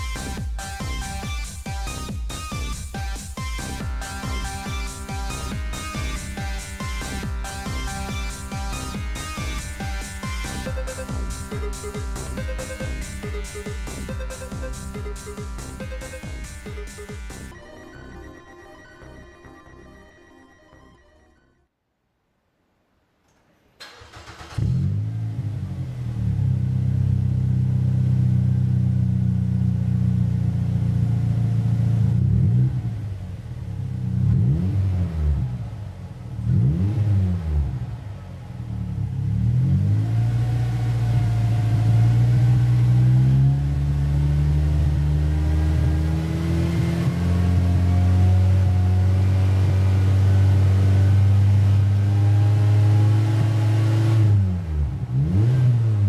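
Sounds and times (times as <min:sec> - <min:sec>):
car engine exhaust revving: 0:03.6 - 0:17.5, 0:24.1 - 0:56.0.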